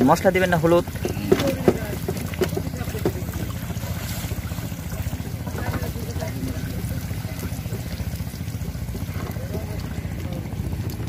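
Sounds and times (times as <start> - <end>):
engine humming: 0.0 - 11.0
faint voices: 0.8 - 11.0.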